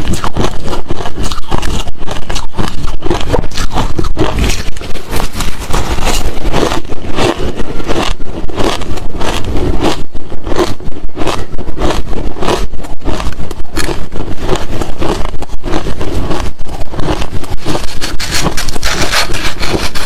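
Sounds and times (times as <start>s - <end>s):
crunchy ice chewing: 0.0s - 20.0s.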